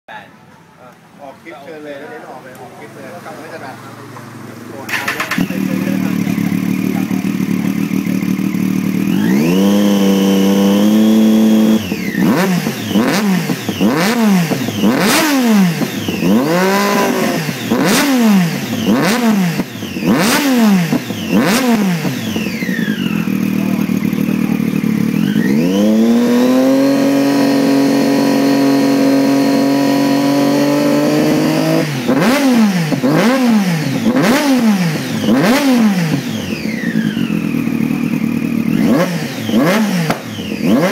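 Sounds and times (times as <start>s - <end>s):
motorcycle engine revving: 2.3s - 40.9s
exhaust cracks: 3.6s - 40.9s.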